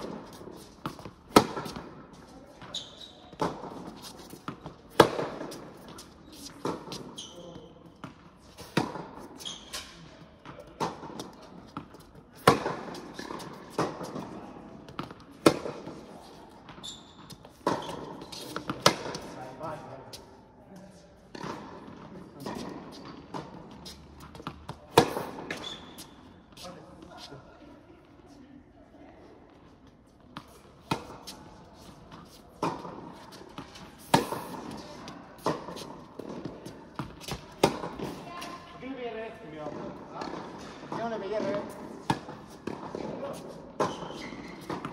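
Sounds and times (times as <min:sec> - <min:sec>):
tennis ball bouncing: 0:00.0 - 0:02.0, 0:02.6 - 0:07.2, 0:08.0 - 0:19.5, 0:21.3 - 0:26.6, 0:30.3 - 0:38.7, 0:39.7 - 0:44.9
rackets striking tennis ball: 0:00.0 - 0:19.8, 0:21.3 - 0:27.2, 0:30.3 - 0:44.9.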